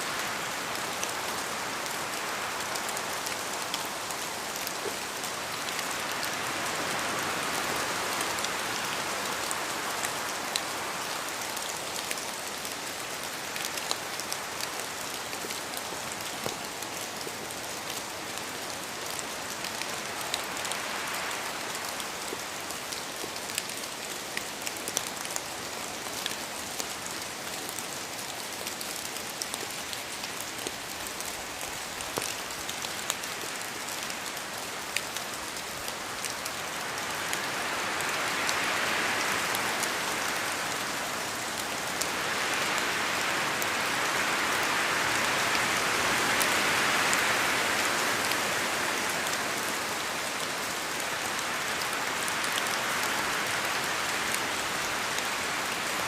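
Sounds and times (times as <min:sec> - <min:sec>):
steady rain falling: 0:00.0 - 0:56.0
raindrops ticking on a surface: 0:00.1 - 0:56.0.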